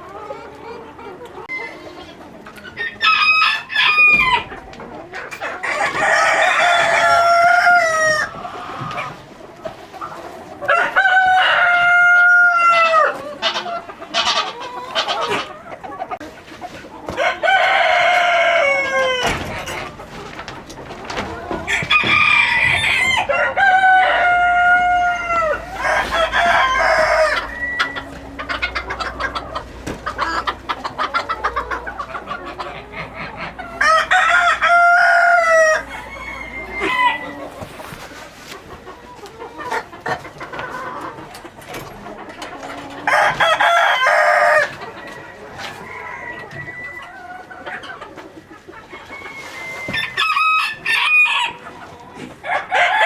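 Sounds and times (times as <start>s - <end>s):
hens clucking: 0.0s - 53.0s
roosters crowing: 1.4s - 9.3s, 10.5s - 15.5s, 17.1s - 20.0s, 20.6s - 38.1s, 38.9s - 53.0s.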